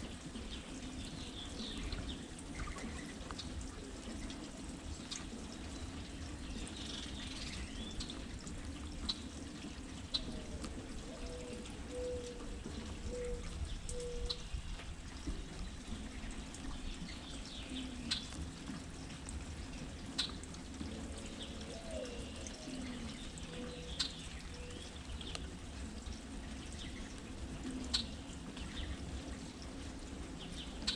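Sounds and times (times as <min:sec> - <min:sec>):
heavy water drops dripping: 0:00.0 - 0:30.9
steady rain: 0:00.0 - 0:30.9
birds calling and chirping: 0:00.1 - 0:30.9.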